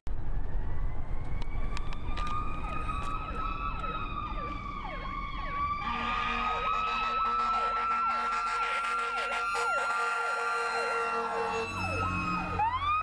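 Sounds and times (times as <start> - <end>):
high wavering siren: 0.1 - 13.0
low pulsing siren tone: 0.1 - 13.0
fast electronic siren yelp: 0.6 - 13.0.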